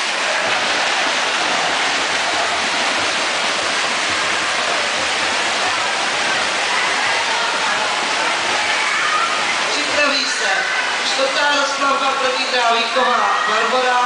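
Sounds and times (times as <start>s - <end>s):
swimmers splashing in a pool: 0.0s - 14.0s.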